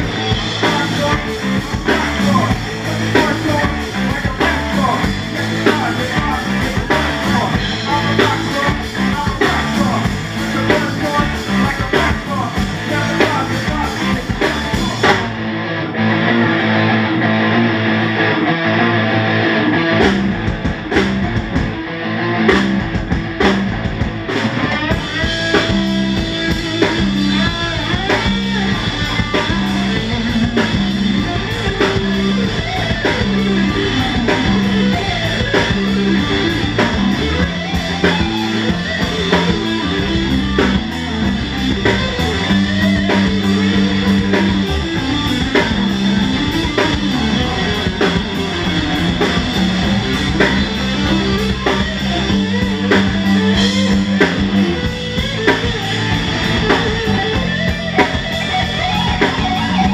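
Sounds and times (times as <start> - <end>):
drum kit: 0.0 - 15.6, 19.1 - 59.9
electric bass: 0.0 - 59.9
electric guitar: 0.0 - 59.9.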